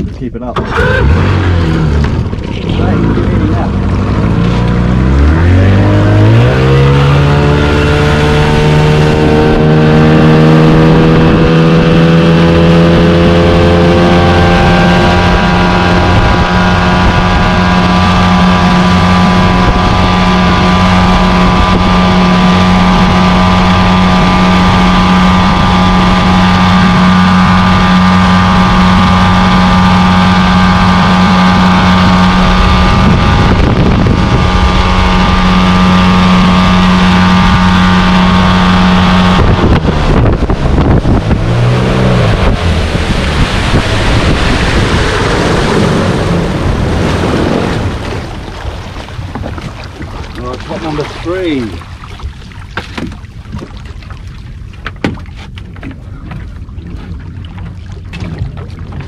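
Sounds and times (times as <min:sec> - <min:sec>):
small outboard motor: 0:00.0 - 0:59.0.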